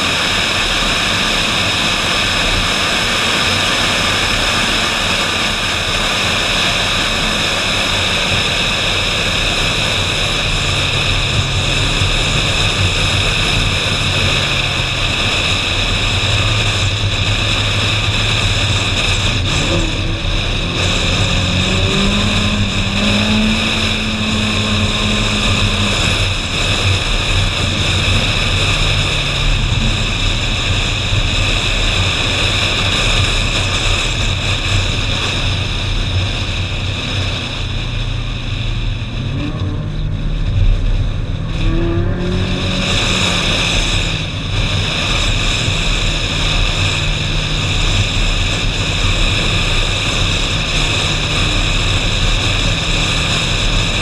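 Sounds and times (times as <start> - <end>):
wind and road noise: 0.0 - 54.0
low car engine note: 6.0 - 33.8, 35.7 - 54.0.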